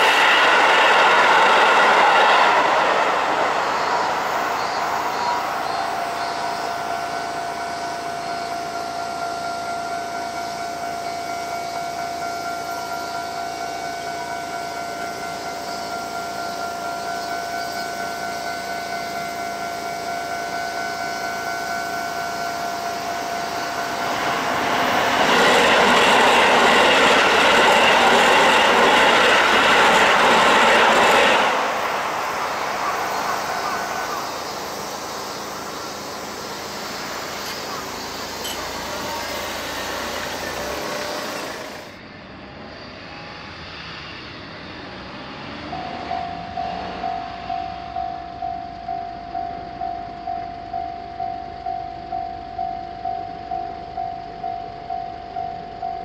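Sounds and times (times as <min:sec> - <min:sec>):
level-crossing warning bell: 0:00.0 - 0:42.0, 0:45.2 - 0:56.0
train passing: 0:00.0 - 0:56.0.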